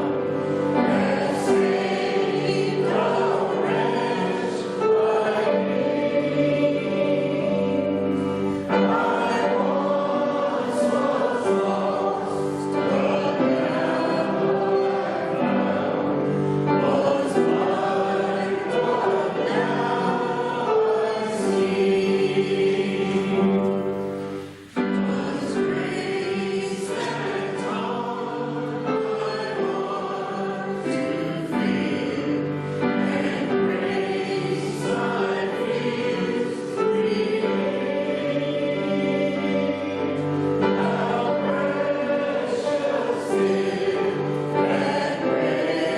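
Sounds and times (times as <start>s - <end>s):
congregation singing a hymn: 0.0s - 45.9s.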